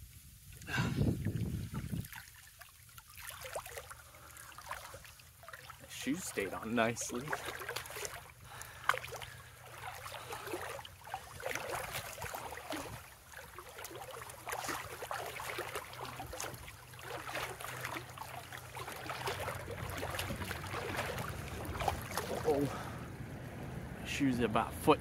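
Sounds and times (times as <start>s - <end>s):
person wading through river water: 0.3s - 23.7s.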